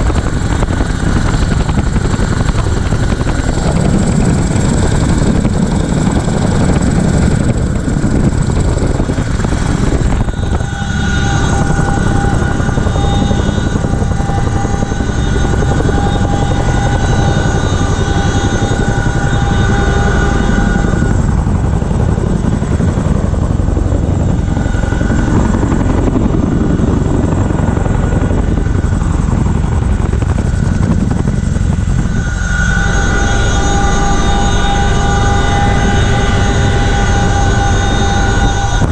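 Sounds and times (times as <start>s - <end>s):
helicopter rotor and engine noise: 0.0s - 38.9s
high transmission whine: 0.0s - 38.9s.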